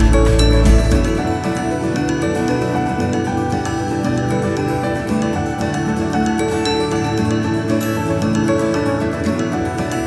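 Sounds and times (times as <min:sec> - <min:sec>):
calm instrumental music: 0:00.0 - 0:10.0.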